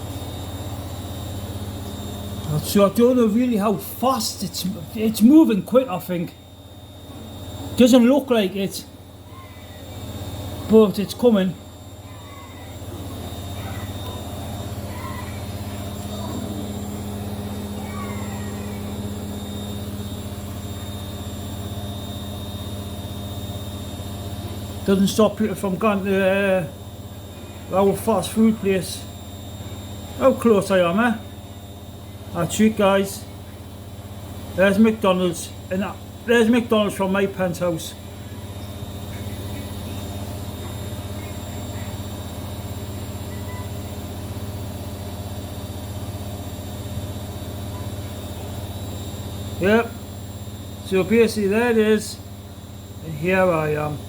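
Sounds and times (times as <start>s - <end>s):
faint high whine: 0.0s - 54.0s
low mechanical hum: 0.0s - 54.0s.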